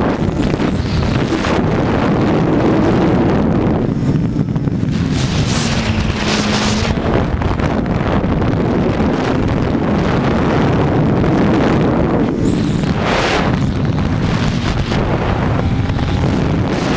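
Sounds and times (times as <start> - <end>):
motorcycle engine: 0.0 - 16.9
wind buffeting microphone: 0.0 - 16.9.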